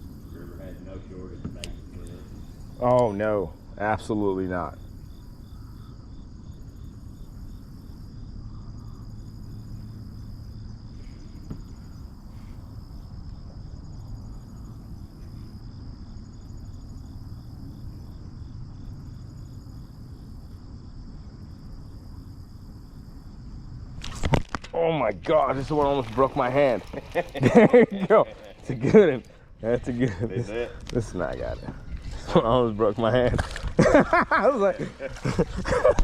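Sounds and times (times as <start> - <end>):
insects trilling: 0.0 - 36.0.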